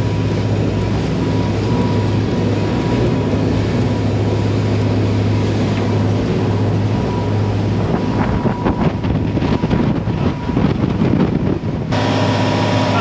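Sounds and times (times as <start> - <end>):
diesel engines droning: 0.0 - 10.7, 11.7 - 13.0
rough rushing noise with crackles: 0.0 - 13.0.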